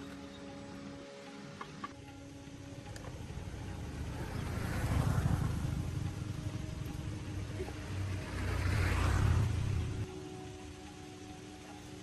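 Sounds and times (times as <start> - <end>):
low engine rumble: 2.0 - 11.6.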